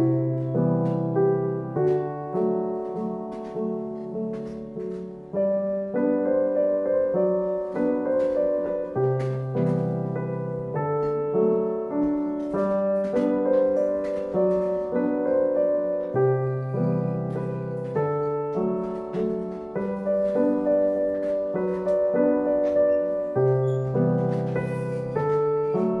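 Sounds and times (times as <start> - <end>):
calm piano piece: 0.0 - 26.0.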